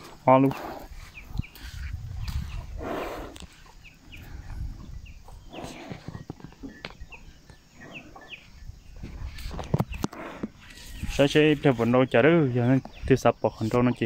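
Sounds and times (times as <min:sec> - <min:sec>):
small bird chirping: 0:00.9 - 0:14.0.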